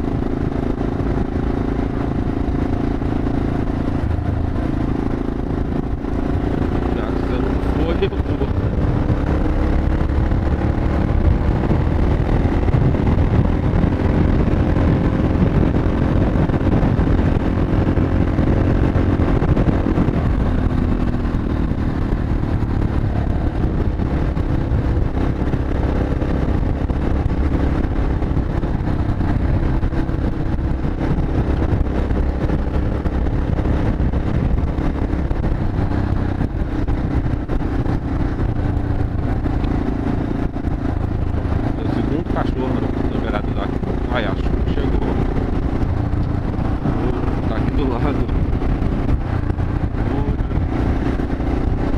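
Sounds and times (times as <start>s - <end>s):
motorcycle engine cruising: 0.0s - 51.9s
wind and road noise rumble: 0.0s - 51.9s.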